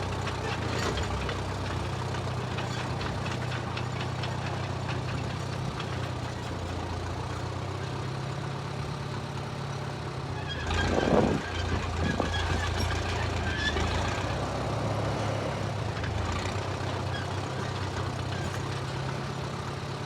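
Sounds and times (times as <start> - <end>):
bulldozer engine running: 0.0 - 20.0.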